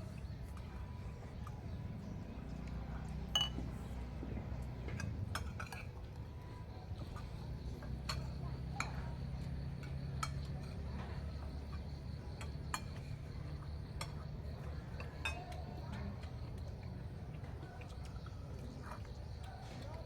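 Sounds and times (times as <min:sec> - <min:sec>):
light clicks and clinks: 0:02.5 - 0:20.0.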